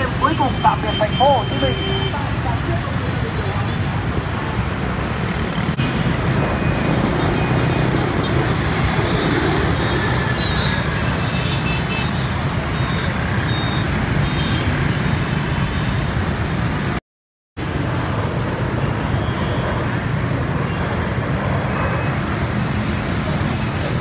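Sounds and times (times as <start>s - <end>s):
road traffic rumble: 0.0s - 17.0s, 17.6s - 24.0s.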